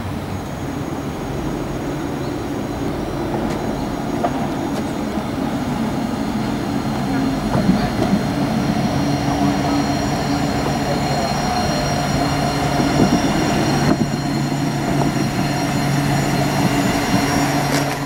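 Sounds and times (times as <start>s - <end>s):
electric tram whine: 0.0s - 18.0s
tram wheels rumbling on rails: 0.0s - 18.0s.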